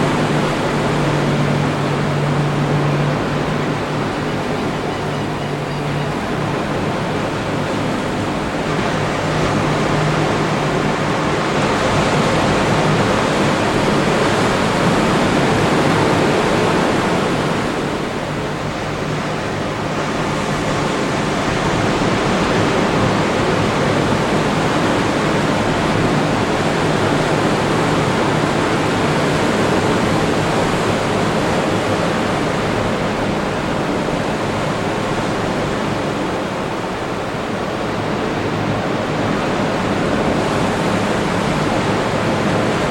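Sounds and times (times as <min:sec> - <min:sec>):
surf waves breaking on beach: 0:00.0 - 0:42.9.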